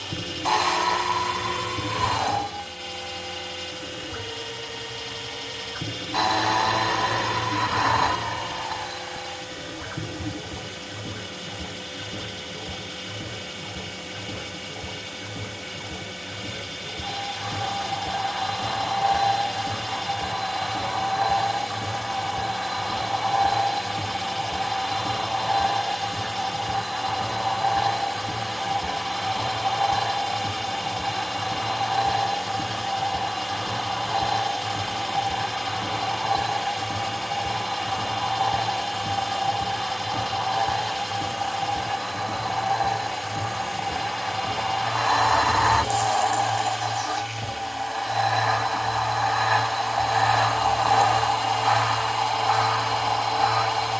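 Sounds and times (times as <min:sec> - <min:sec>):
cutter biting metal: 0:00.0 - 0:04.2, 0:05.6 - 0:10.1, 0:17.0 - 0:53.9
milling machine running: 0:00.0 - 0:53.9.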